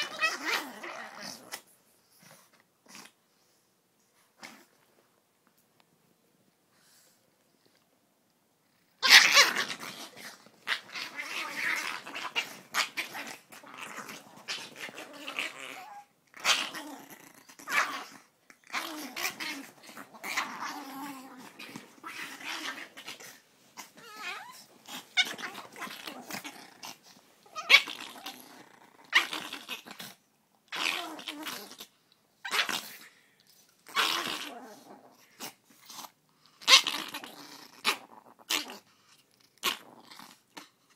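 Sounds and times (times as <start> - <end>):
small dogs growling and snarling: 0.0 - 3.6, 4.2 - 5.0, 8.6 - 40.9.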